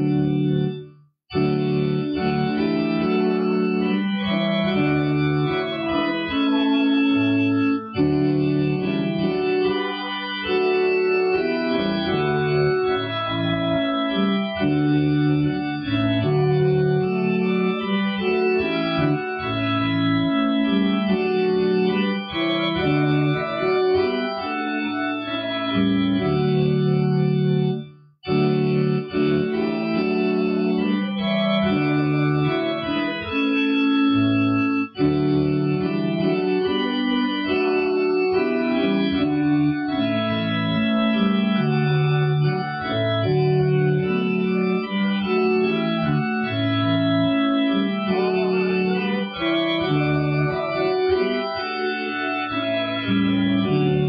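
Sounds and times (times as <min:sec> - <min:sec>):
organ playing a hymn: 0:00.0 - 0:54.0.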